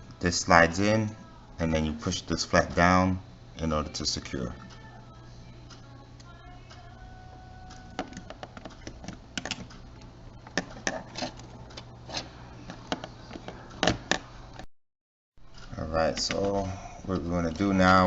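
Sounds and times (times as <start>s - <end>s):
steady low hum: 0.0s - 14.7s, 15.4s - 18.0s.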